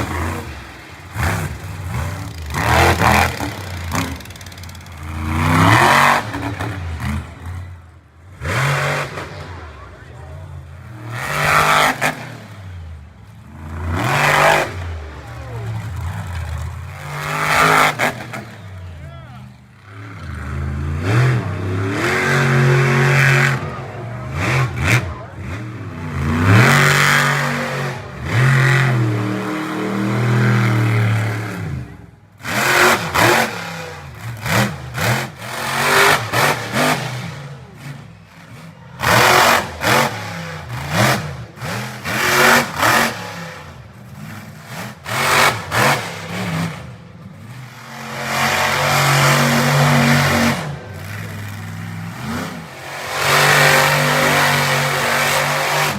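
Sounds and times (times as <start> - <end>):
truck engine revving hard: 0.0 - 55.9.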